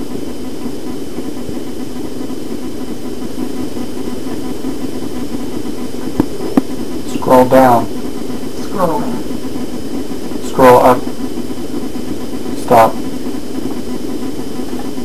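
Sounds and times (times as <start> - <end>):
low droning hum with hiss: 0.0 - 15.0.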